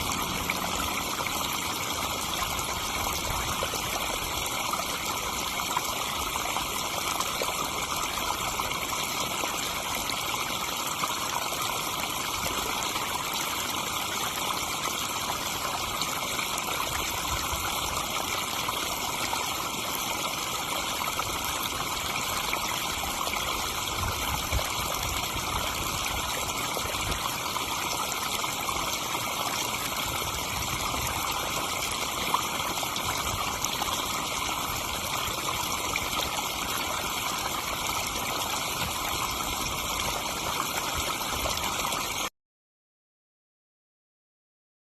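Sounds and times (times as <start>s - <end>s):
waterfall splashing into pond: 0.0s - 42.3s.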